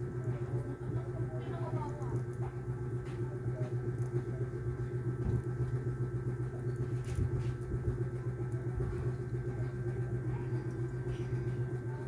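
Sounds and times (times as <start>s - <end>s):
faint constant whine: 0.0s - 12.0s
low machine hum: 0.0s - 12.0s.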